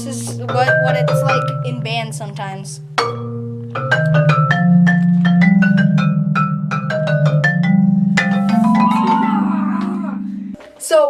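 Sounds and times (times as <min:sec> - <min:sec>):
marimba played with mallets: 0:00.0 - 0:11.0.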